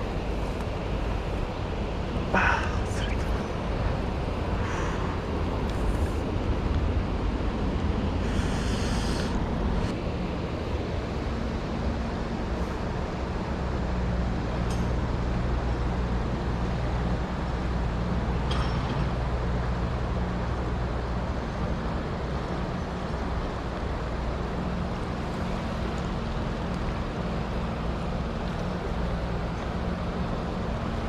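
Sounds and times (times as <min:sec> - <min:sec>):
mountain stream flowing: 0:00.0 - 0:31.0.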